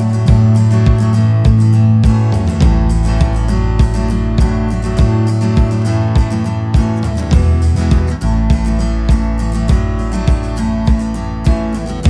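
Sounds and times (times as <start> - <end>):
steady beat: 0.0 - 12.0
strummed guitar: 0.0 - 12.0.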